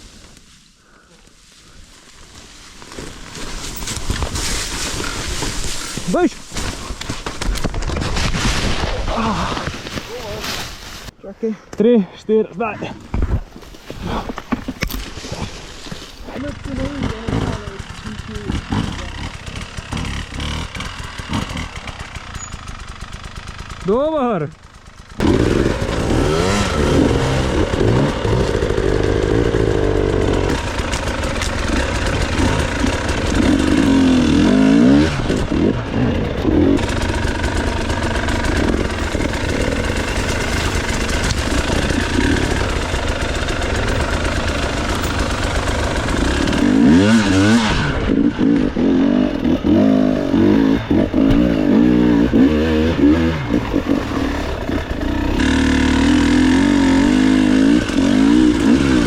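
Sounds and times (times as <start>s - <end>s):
motorcycle engine revving: 3.0s - 10.3s, 15.2s - 59.0s.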